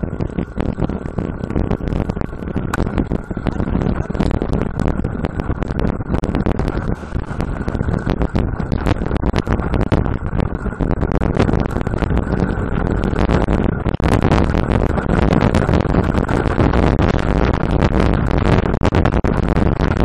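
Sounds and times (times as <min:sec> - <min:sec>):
road rumble: 0:00.0 - 0:20.0
wind buffeting: 0:00.0 - 0:20.0.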